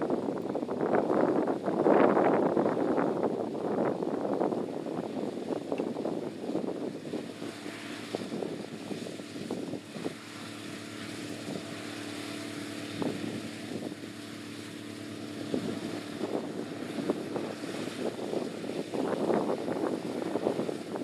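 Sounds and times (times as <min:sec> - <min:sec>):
combine harvester engine drone: 0:00.0 - 0:21.0
wind buffeting microphone: 0:00.0 - 0:21.0.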